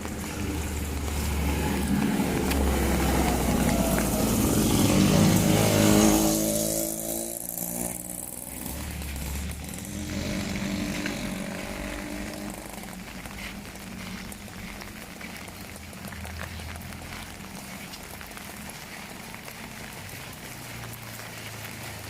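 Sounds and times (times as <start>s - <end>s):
passing vehicle engine hum: 0.0s - 22.0s
rain pattering: 0.0s - 22.0s.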